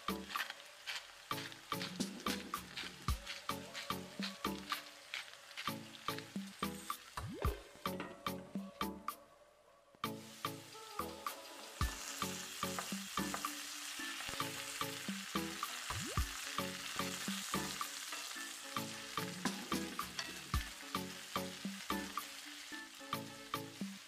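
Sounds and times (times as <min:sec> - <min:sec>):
potatoes sizzling in oil: 0:00.0 - 0:08.0, 0:10.0 - 0:24.0.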